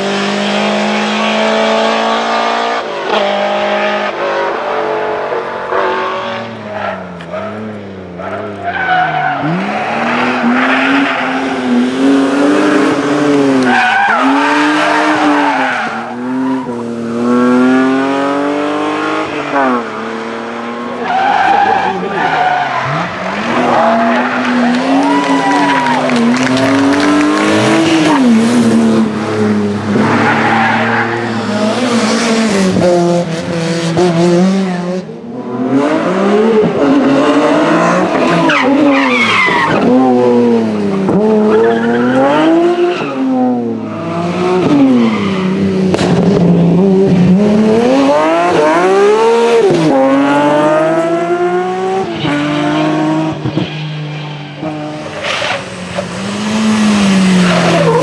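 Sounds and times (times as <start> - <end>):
cars passing close by: 0.0 - 58.0
rally car engines revving: 0.0 - 58.0.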